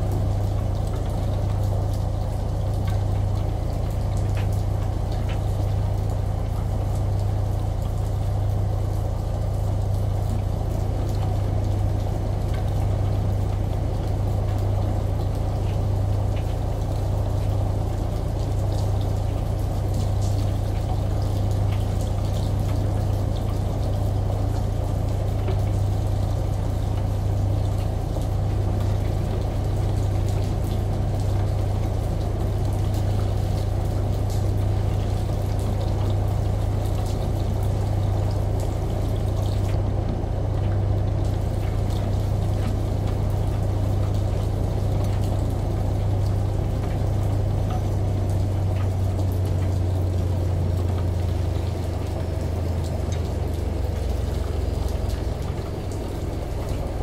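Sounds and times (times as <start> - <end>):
rain: 0.0 - 57.0
shower water running: 0.0 - 57.0
washing machine drone: 0.0 - 57.0.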